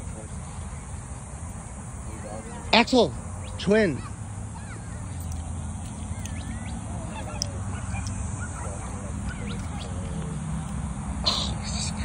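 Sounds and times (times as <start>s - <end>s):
distant birds calling: 0.0s - 12.0s.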